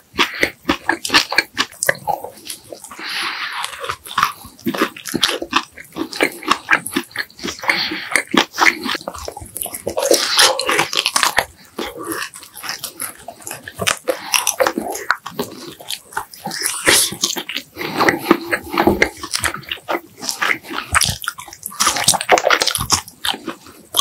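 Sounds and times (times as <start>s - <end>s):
person chewing and lip smacking: 0.0s - 24.0s.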